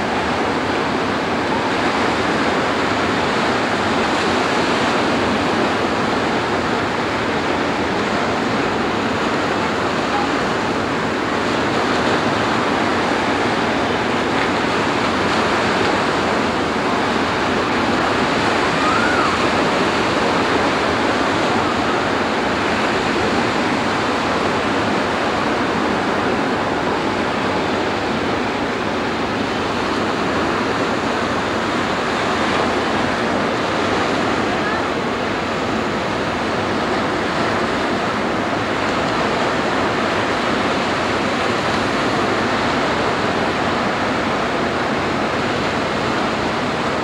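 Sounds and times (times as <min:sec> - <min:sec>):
ocean waves breaking: 0:00.0 - 0:47.0.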